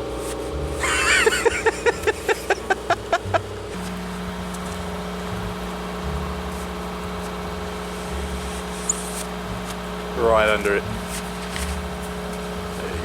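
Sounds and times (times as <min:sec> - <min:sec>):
car engine idling: 0:00.0 - 0:13.0
heater fan blowing: 0:00.0 - 0:13.0.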